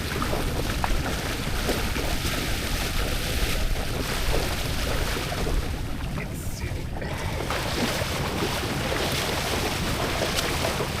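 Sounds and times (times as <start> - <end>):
water noise: 0.0 - 11.0
wind buffeting microphone: 0.0 - 11.0.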